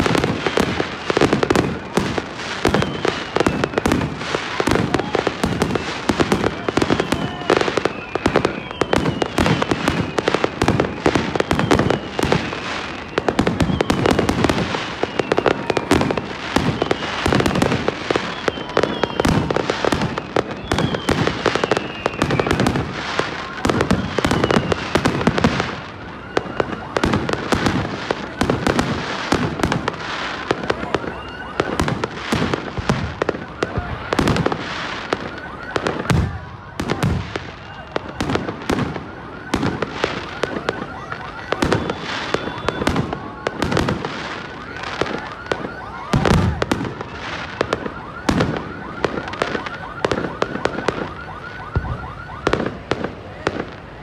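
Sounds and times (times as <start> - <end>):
firework falling whistles: 0.0 - 53.7.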